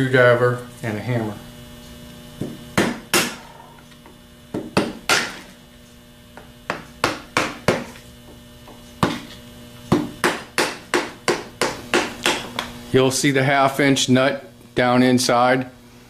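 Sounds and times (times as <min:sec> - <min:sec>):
steady mains hum: 0:00.0 - 0:16.0.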